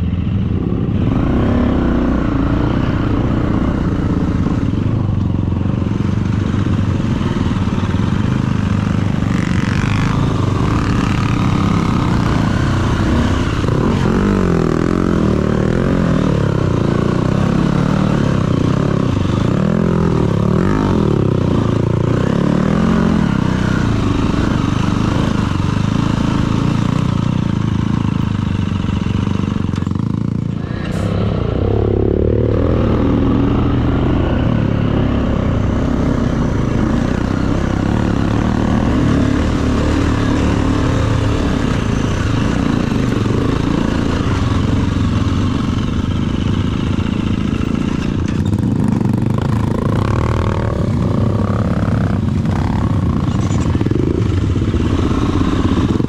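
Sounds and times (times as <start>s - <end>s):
dirt bike engine revving: 0.6s - 56.0s.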